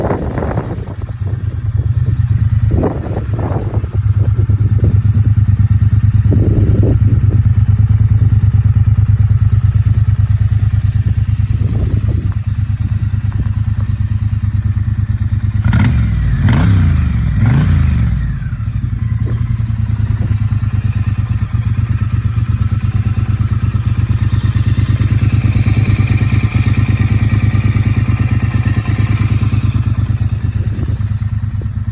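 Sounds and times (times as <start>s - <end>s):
engine throttle blips and revs: 0.0s - 31.9s
motorcycle engine idling: 0.0s - 31.9s.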